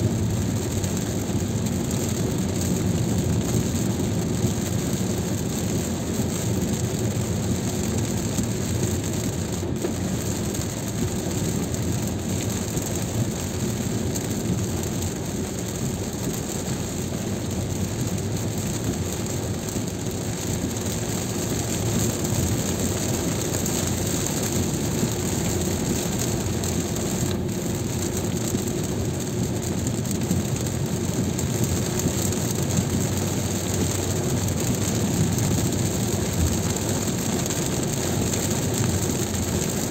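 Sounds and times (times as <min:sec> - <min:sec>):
low rumble of road and engine: 0:00.0 - 0:39.9
rain on car: 0:00.0 - 0:39.9
tyres hissing on wet road: 0:00.0 - 0:39.9.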